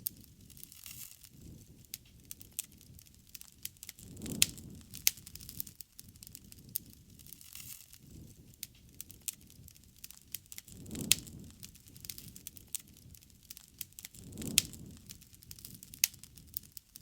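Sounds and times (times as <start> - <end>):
low rush of flame: 0.0 - 17.0
wood crackling and popping: 0.0 - 17.0.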